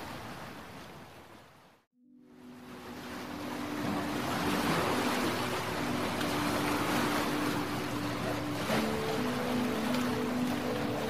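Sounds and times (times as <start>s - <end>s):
waves washing onto beach: 0.0s - 1.7s, 2.3s - 11.0s
soft low melody: 2.0s - 11.0s.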